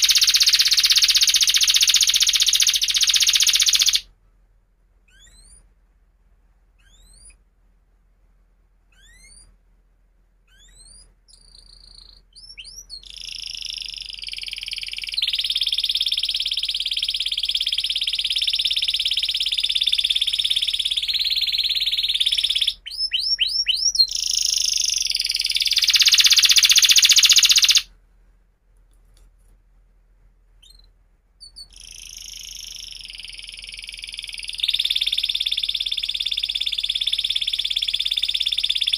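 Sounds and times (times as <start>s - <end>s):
canary singing: 0.0s - 4.1s, 5.0s - 5.7s, 6.8s - 7.4s, 8.9s - 9.6s, 10.4s - 27.9s, 30.6s - 38.9s.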